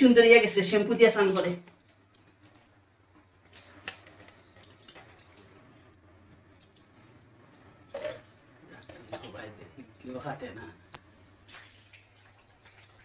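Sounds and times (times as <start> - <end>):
water dripping and splashing: 0.4 - 10.2, 10.9 - 13.0.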